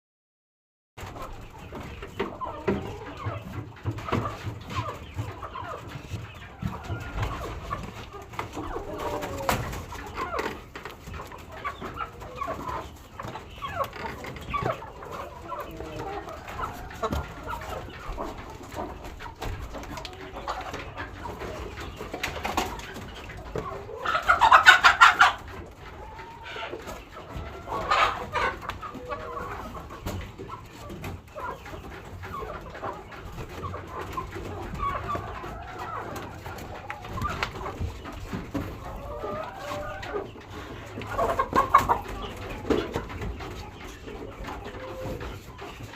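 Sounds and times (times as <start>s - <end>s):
chickens clucking: 1.0s - 45.9s.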